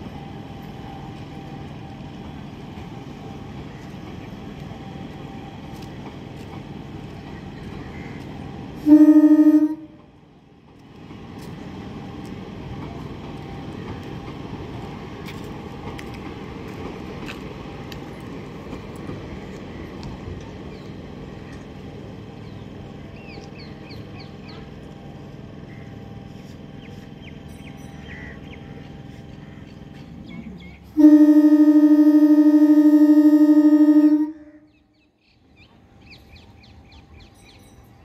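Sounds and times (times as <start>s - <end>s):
train rumbling on track: 0.0s - 38.0s.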